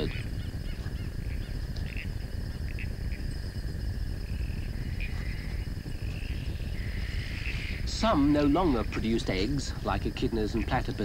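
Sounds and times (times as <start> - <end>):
insect chirps: 0.0 - 11.0
insects trilling: 0.0 - 11.0
low rumble: 0.0 - 11.0.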